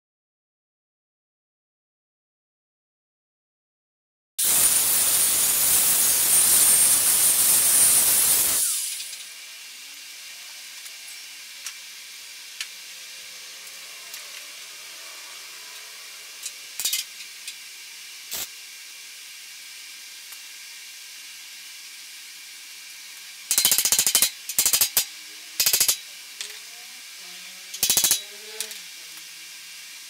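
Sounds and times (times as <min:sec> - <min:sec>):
arc welding crackle: 0:04.4 - 0:30.0.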